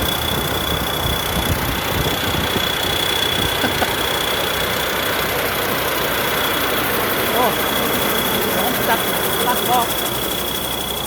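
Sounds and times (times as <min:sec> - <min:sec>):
diesel engine running: 0:00.0 - 0:11.0
high-pitched whine: 0:00.0 - 0:11.0.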